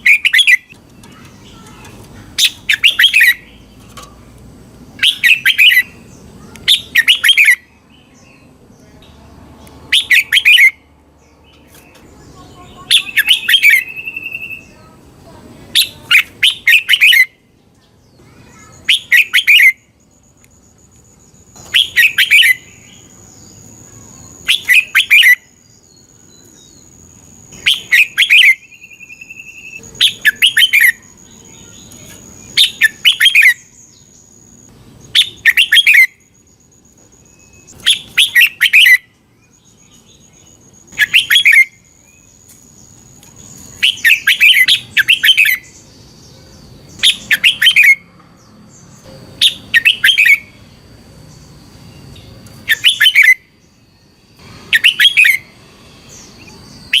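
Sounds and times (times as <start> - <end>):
bird whistled song: 0.0 - 3.8, 5.0 - 8.5, 9.9 - 14.9, 15.7 - 17.5, 18.1 - 48.1, 48.7 - 57.0.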